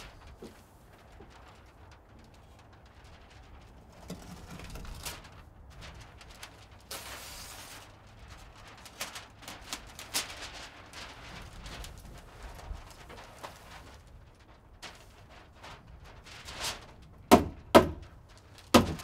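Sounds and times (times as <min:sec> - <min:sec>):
plastic sheeting crackling and rustling: 0:00.0 - 0:19.0.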